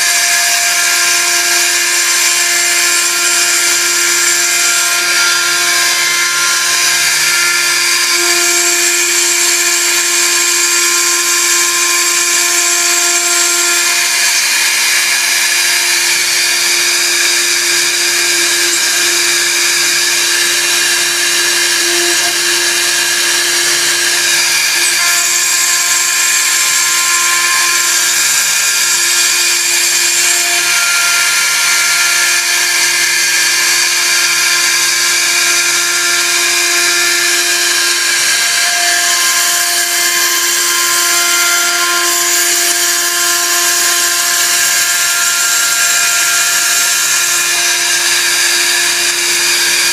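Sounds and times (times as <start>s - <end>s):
high-speed motor whine: 0.0s - 49.9s.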